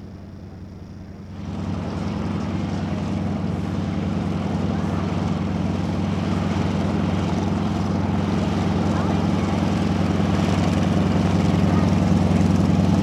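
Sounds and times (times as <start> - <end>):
aircraft radial engine throbbing: 0.0 - 13.0.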